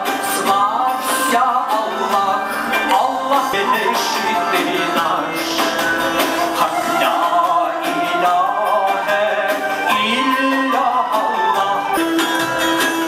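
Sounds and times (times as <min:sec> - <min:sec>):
instrumental accompaniment: 0:00.0 - 0:13.0
man singing into a microphone: 0:00.0 - 0:13.0.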